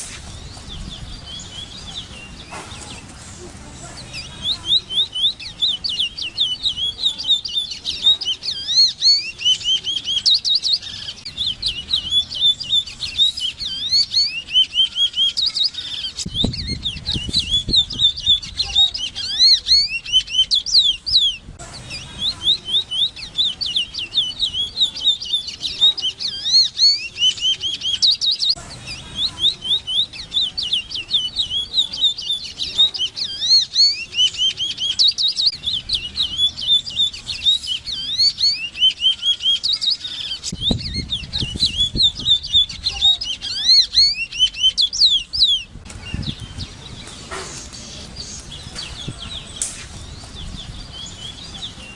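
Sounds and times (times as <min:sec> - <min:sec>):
finch singing whistled notes: 0:00.0 - 0:51.9.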